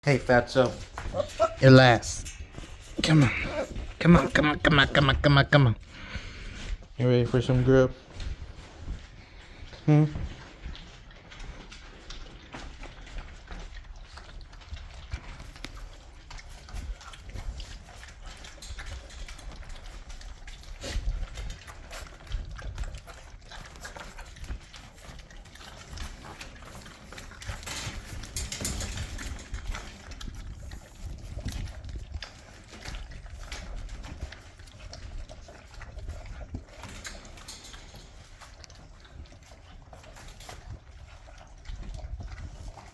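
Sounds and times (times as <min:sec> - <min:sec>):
puppies chewing and snuffling: 0:00.0 - 0:42.9.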